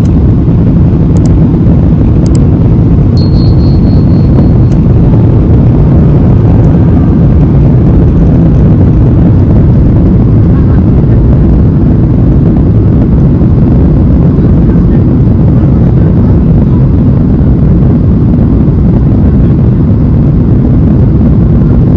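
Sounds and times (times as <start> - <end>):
jet engine and airflow rumble: 0.0 - 21.9.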